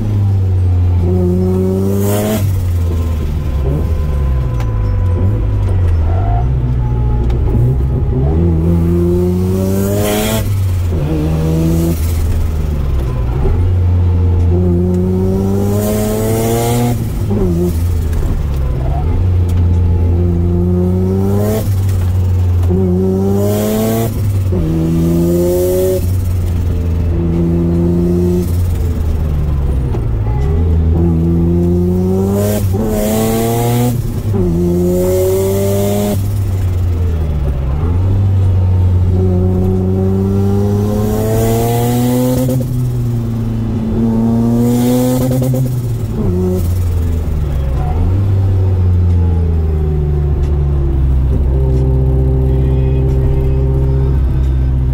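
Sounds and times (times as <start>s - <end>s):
rotary engine accelerating: 0.0s - 54.9s.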